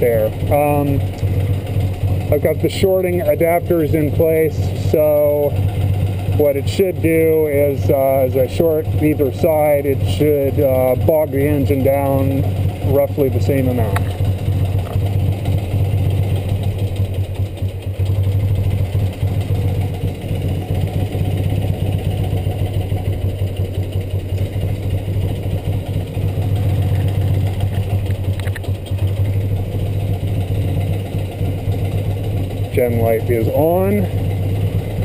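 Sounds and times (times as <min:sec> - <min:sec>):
motorcycle engine idling: 0:00.0 - 0:35.0.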